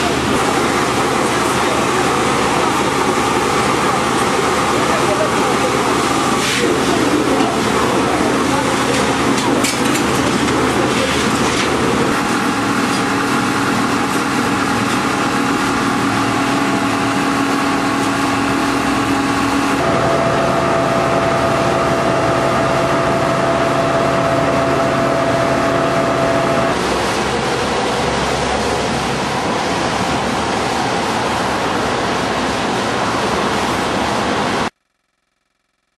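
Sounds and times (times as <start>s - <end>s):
engine droning: 0.0s - 34.7s.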